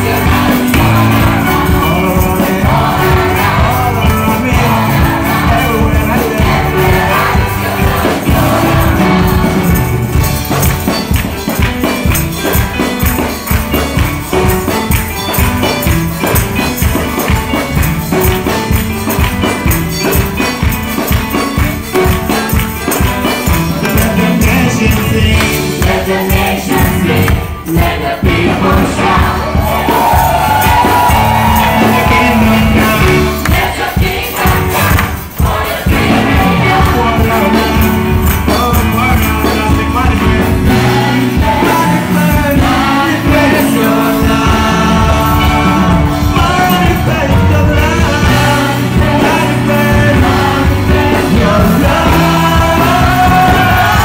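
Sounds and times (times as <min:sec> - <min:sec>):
choir singing over a beat: 0:00.0 - 0:54.0
tambourines shaking: 0:00.0 - 0:54.0.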